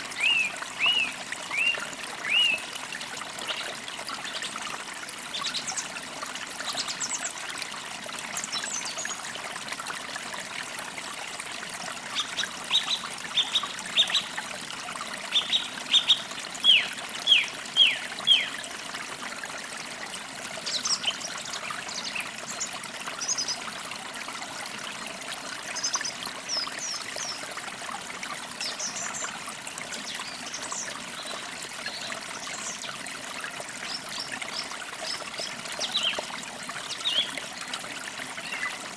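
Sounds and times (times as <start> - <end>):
songbirds: 0.0 - 9.4, 12.1 - 14.4, 15.2 - 18.8, 20.5 - 23.7, 25.6 - 38.9
stream trickling: 0.0 - 38.9.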